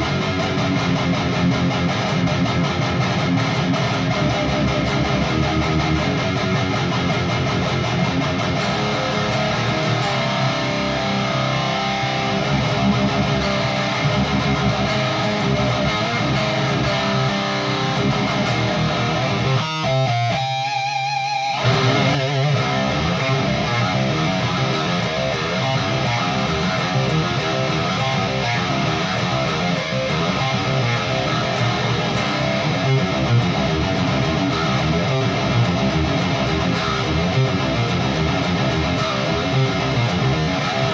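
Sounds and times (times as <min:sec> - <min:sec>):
distorted electric guitar riffs: 0:00.0 - 0:40.9.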